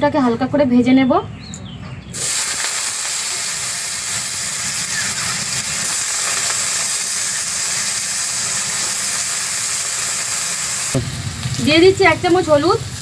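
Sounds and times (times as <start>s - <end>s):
potatoes sizzling in hot oil: 2.2s - 13.0s.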